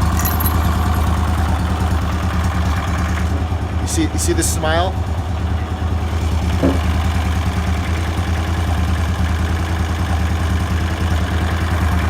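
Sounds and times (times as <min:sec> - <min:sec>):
mini bike engine idling: 0:00.0 - 0:12.0.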